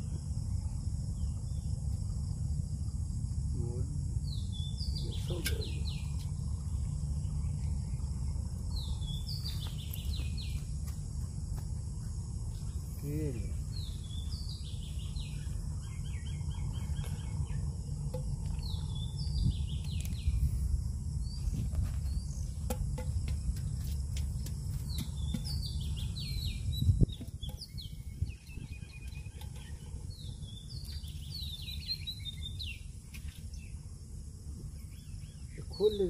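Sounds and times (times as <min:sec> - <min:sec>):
low rumble: 0:00.0 - 0:35.5
birds chirping: 0:00.0 - 0:36.0
high insect drone: 0:00.0 - 0:36.0.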